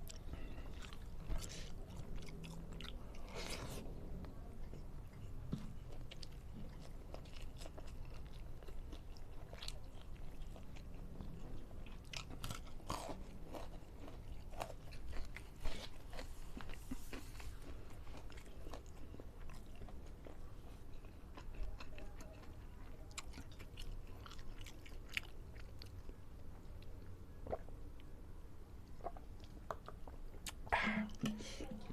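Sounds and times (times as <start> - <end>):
person chewing food: 0.0 - 28.1, 28.8 - 31.9.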